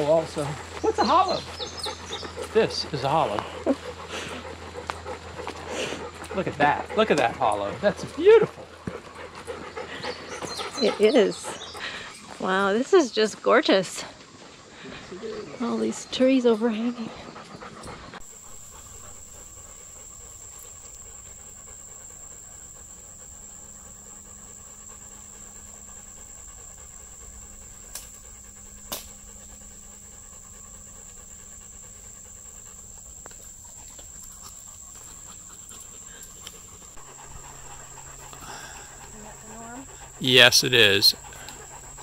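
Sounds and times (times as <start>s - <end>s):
dog panting: 0.0s - 42.0s.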